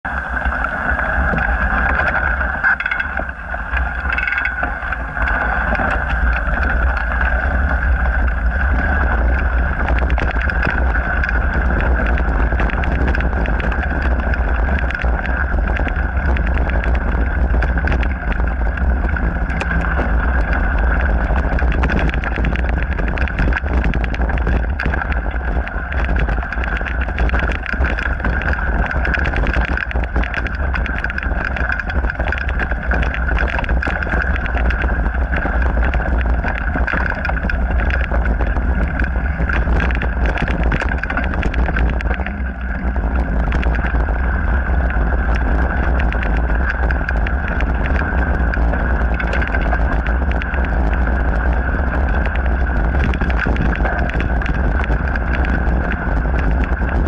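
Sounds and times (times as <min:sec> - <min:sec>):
wind rumble on microphone: 0:00.0 - 0:57.0
bike clicks and rattles: 0:00.1 - 0:57.0.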